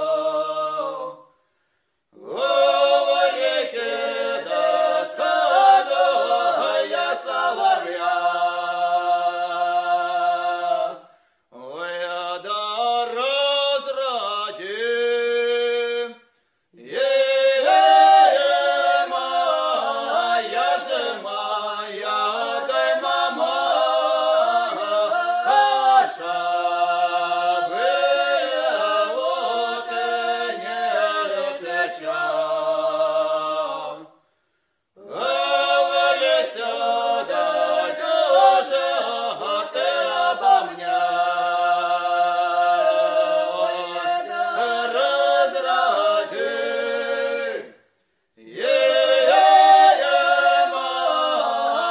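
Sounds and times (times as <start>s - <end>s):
unaccompanied voices singing: 0.0s - 1.3s, 2.2s - 34.2s, 35.0s - 47.8s, 48.4s - 51.9s.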